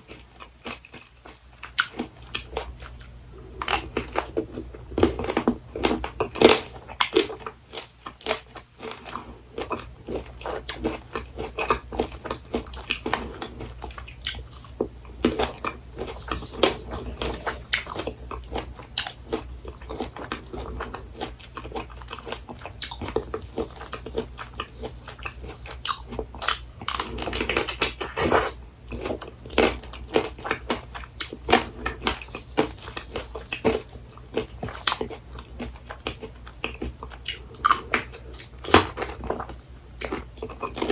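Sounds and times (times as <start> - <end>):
hard candy shell crunching: 3.6 - 40.9.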